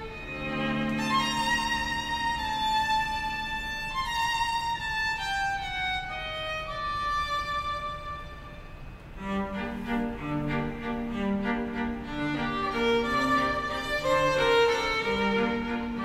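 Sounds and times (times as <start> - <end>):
string quartet playing: 0.0 - 16.0.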